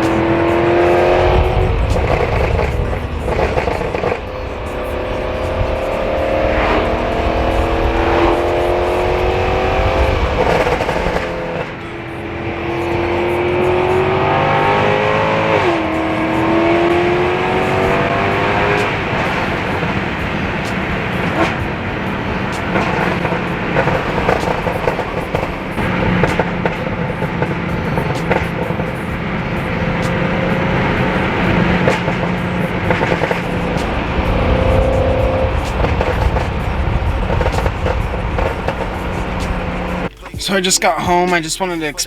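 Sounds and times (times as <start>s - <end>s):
car engine revving hard: 0.0s - 42.0s
exhaust crackles: 0.0s - 42.0s.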